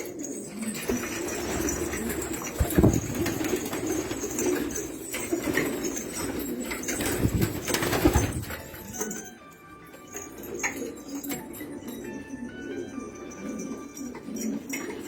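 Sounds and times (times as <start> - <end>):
pigeons cooing: 0.0 - 9.2, 9.8 - 15.0.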